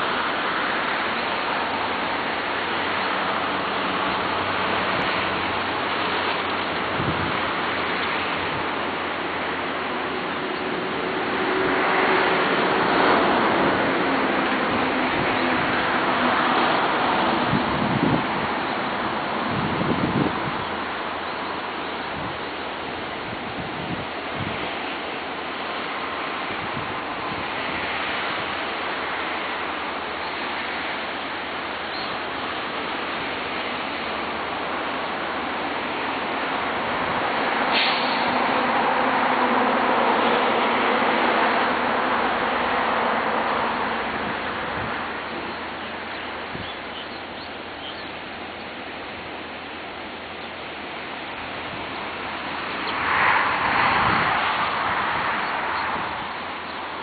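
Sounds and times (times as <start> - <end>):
ocean surf breaking: 0.0 - 46.6, 48.4 - 57.0.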